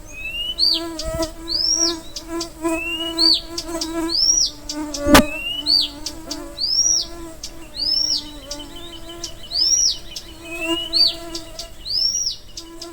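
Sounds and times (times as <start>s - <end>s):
flying insect buzzing: 0.4s - 12.9s.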